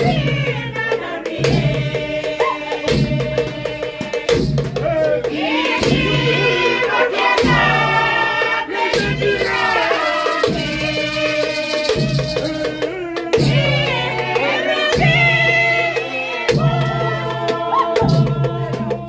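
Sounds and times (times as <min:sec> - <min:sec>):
steady drum beat: 0:00.0 - 0:19.0
voices singing together: 0:00.0 - 0:19.0.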